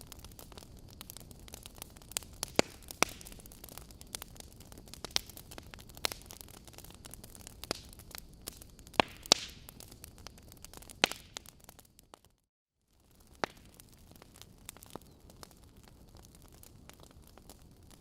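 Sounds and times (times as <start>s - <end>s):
fire popping: 0.0s - 18.0s
logs crackling: 0.0s - 18.0s.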